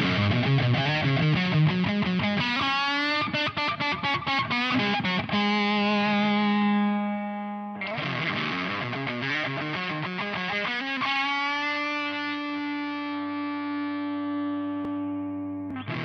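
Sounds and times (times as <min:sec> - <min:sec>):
distorted electric guitar riffing: 0:00.0 - 0:16.0.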